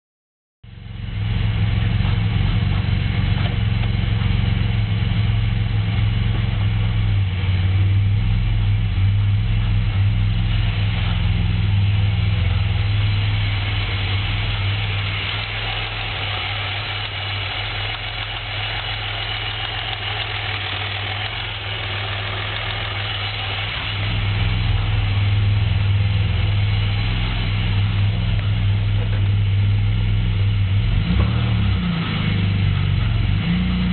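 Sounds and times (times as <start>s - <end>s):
car engine knocking: 0.7s - 31.4s.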